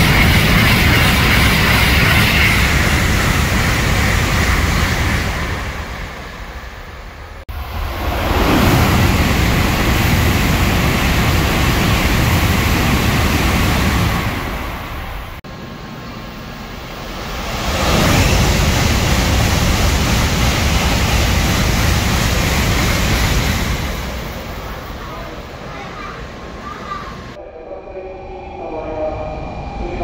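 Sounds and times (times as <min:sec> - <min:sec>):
bullet train passing at speed: 0:00.0 - 0:30.0.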